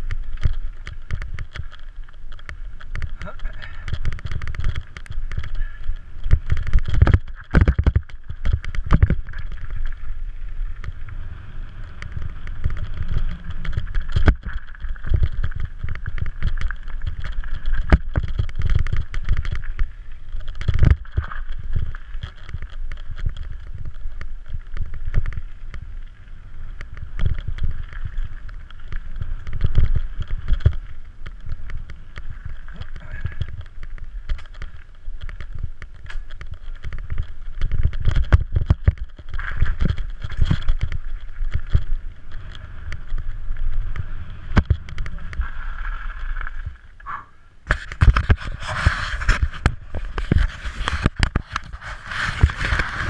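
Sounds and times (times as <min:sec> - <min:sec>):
tyres rolling on gravel: 0:00.0 - 0:47.0, 0:47.7 - 0:53.0
bike knocking and rattling: 0:00.0 - 0:53.0.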